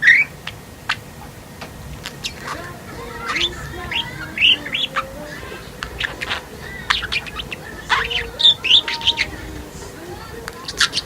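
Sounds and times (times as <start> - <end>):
budgerigar warbling: 1.8 - 11.0.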